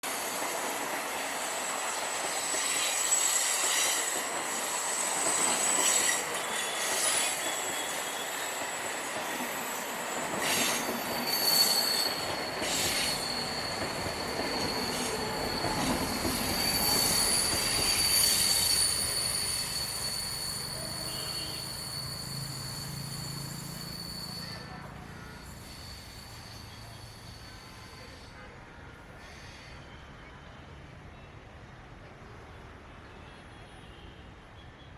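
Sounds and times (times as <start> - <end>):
train wheels squealing: 0.1 - 30.7.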